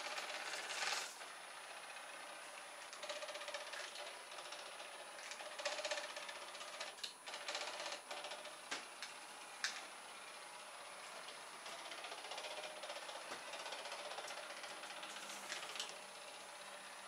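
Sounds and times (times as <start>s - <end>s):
electric propeller motor buzzing: 0.0s - 17.0s.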